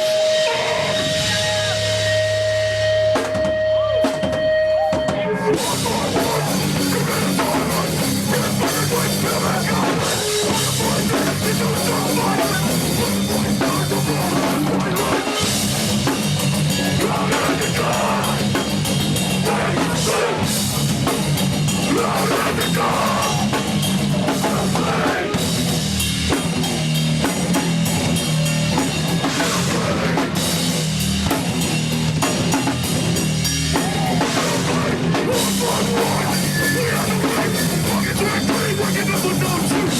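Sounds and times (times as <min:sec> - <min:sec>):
drum kit pounding: 0:00.0 - 0:39.9
heavy rock band playing: 0:00.0 - 0:39.9.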